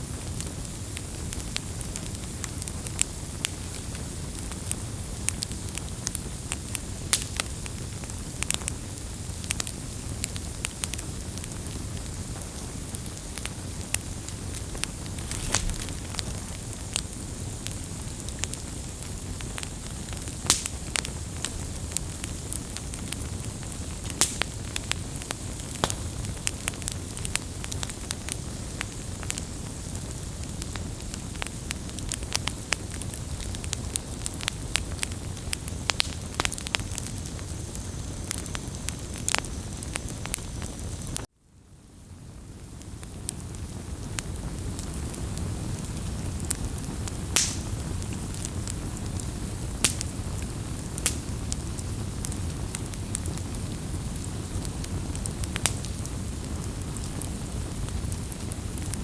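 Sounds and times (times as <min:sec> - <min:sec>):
campfire flame rumble: 0:00.0 - 0:59.0
fire crackles and pops: 0:00.0 - 0:59.0.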